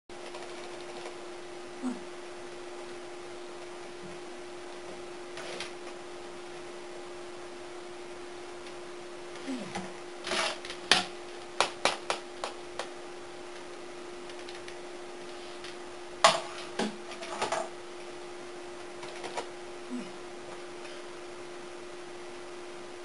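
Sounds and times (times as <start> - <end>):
steady hum: 0.1 - 23.0.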